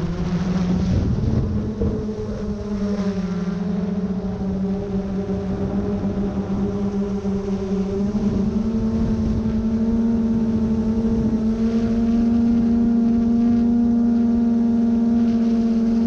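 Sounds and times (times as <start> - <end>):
mechanical hum with whine: 0.0 - 16.0.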